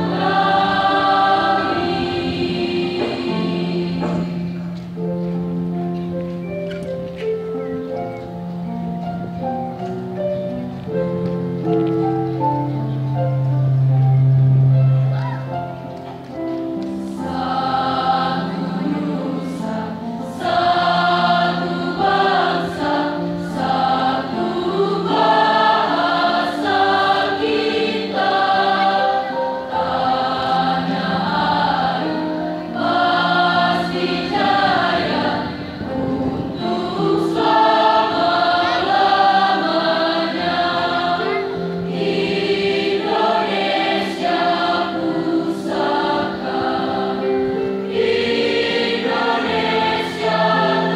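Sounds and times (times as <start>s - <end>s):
children's choir singing: 0.0s - 6.6s, 11.1s - 50.9s
electronic keyboard accompaniment: 0.0s - 50.9s.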